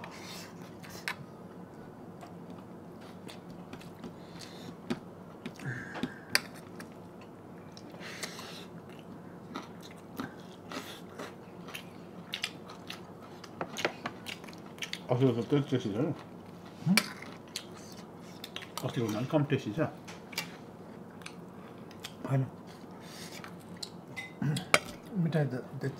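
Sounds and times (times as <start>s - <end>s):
people chewing: 0.1s - 19.4s, 20.3s - 25.1s.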